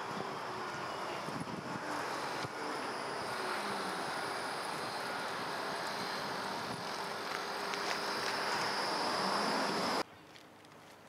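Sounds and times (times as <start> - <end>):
tram wheels rushing on rails: 0.0 - 10.0
faint high whine: 0.0 - 10.2.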